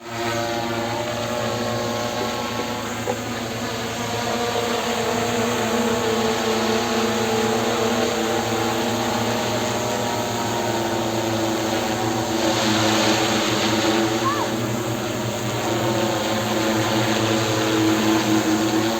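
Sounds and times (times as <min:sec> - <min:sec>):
drone propellers buzzing: 0:00.0 - 0:18.9.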